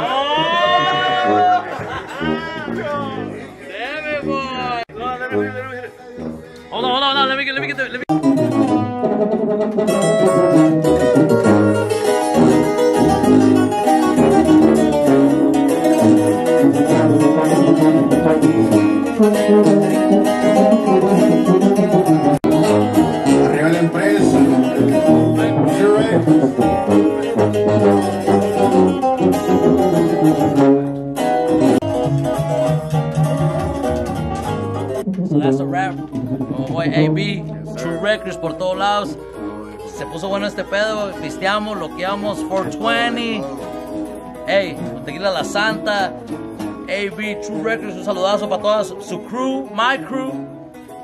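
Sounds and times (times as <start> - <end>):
music with plucked guitars: 0.0 - 51.0.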